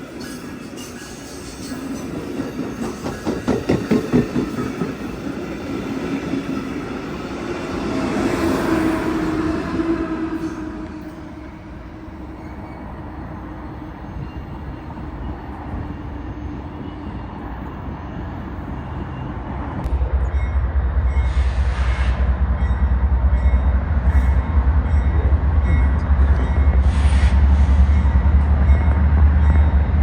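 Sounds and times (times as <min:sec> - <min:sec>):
heavy low train rumble: 0:00.0 - 0:30.0
train rail noise: 0:00.0 - 0:30.0.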